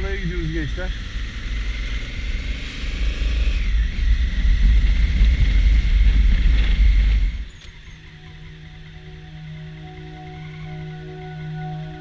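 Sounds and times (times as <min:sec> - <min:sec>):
wind rumble on microphone: 0:00.0 - 0:09.6
motorcycle engine running: 0:00.0 - 0:11.0.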